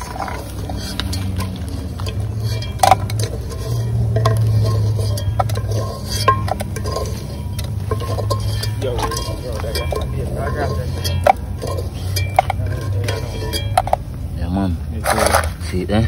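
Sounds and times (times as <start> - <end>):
metal spoon scraping a pot: 0.0 - 14.3
low steady rumble: 0.0 - 16.0
spoon clinking on metal cup: 0.6 - 14.0.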